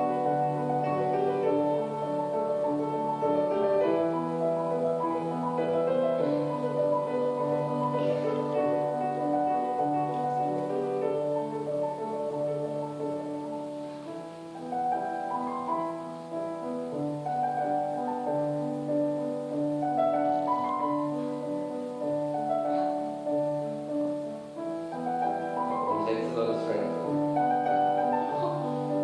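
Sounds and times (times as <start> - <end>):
slow classical piano music: 0.0 - 29.0.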